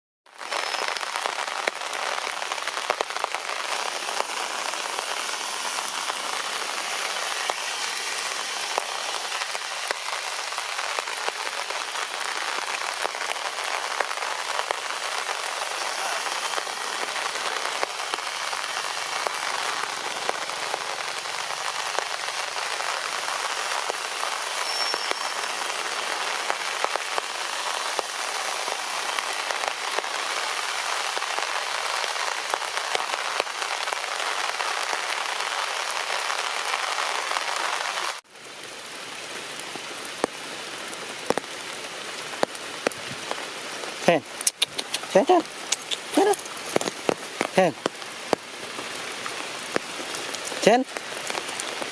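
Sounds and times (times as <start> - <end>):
rain pattering on surfaces: 0.3 - 51.9.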